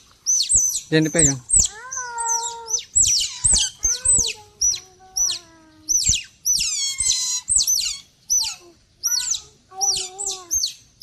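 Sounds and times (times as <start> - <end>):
otters chirping: 0.0 - 11.0
otters whining calls: 0.0 - 11.0.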